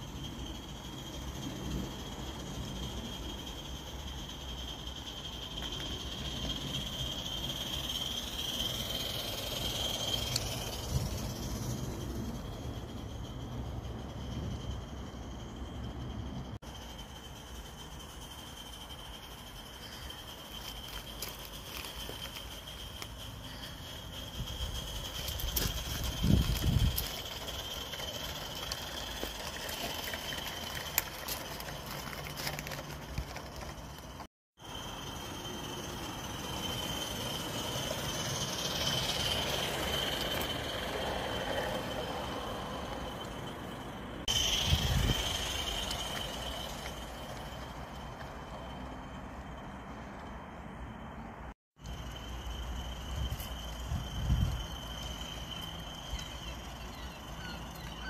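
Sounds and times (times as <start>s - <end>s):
steam locomotive hissing: 0.0s - 50.1s
wheels clicking on track: 0.0s - 51.2s, 51.8s - 58.0s.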